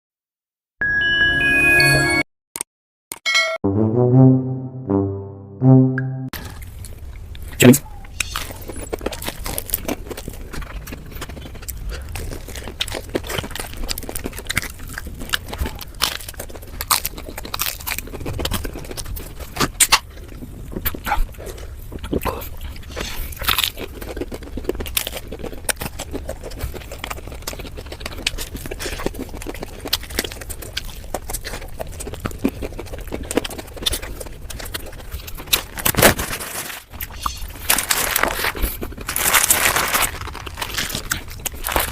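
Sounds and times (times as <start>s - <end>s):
crunching and chewing fried chicken: 6.4s - 41.9s.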